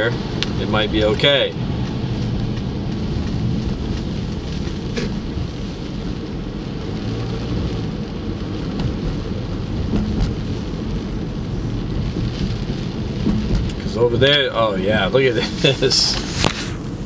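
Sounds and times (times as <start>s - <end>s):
car engine rumble: 0.0s - 17.0s
rain on car: 0.0s - 17.0s
tyres on wet road: 0.0s - 17.0s.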